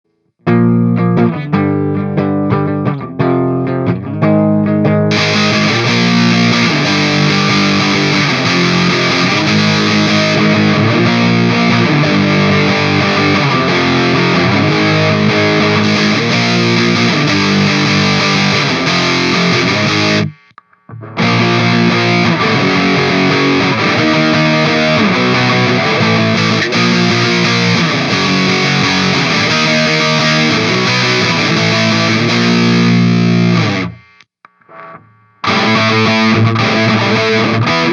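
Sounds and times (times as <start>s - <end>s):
distorted electric guitar riff: 0.0s - 37.9s
picked guitar notes: 0.1s - 37.9s.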